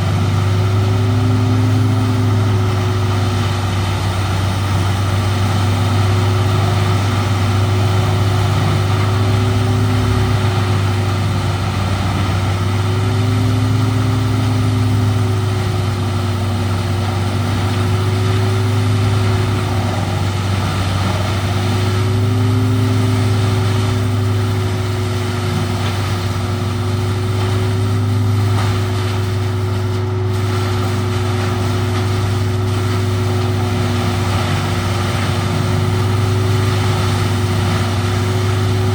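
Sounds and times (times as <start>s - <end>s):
wood chipper chipping wood: 0.0s - 38.9s.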